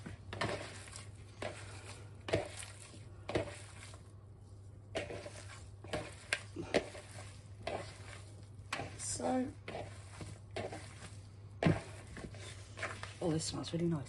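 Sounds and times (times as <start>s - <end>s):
meat squelching in a bowl: 0.0s - 13.5s.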